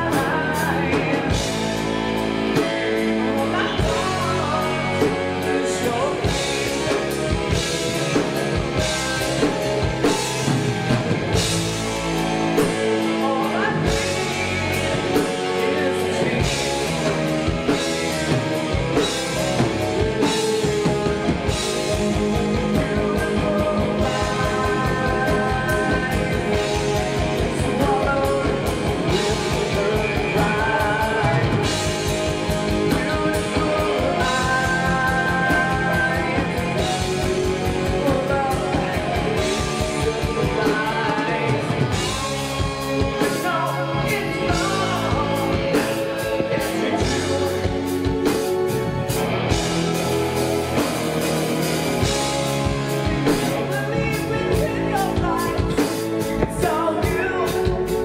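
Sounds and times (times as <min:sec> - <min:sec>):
man singing: 0:00.0 - 0:50.8, 0:51.8 - 0:58.0
bass guitar: 0:00.0 - 0:58.0
drum kit: 0:00.0 - 0:58.0
electric guitar: 0:00.0 - 0:58.0
keyboard: 0:00.0 - 0:58.0.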